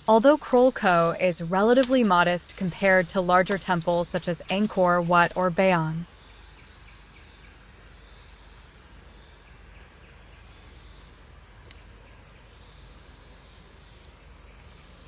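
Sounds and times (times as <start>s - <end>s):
faint high insect tone: 0.0s - 15.0s
insects droning: 0.0s - 15.0s.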